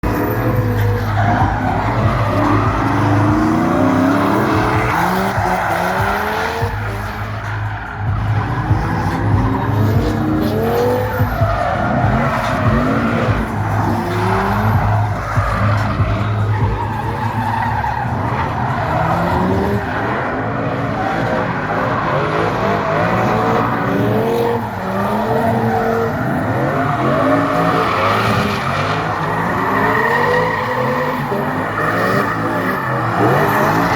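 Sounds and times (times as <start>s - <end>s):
car engines revving: 0.0s - 33.9s
tyres squealing on tarmac: 0.0s - 33.9s.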